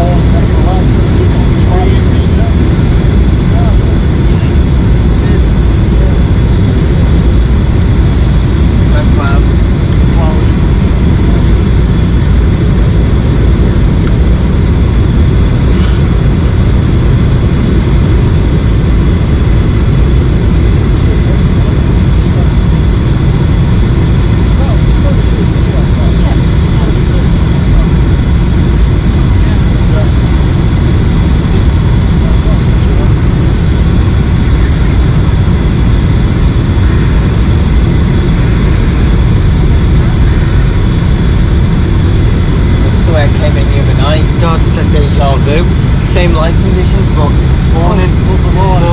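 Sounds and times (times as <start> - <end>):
faint high whine: 0.0 - 48.9
jet engine drone in cabin: 0.0 - 48.9.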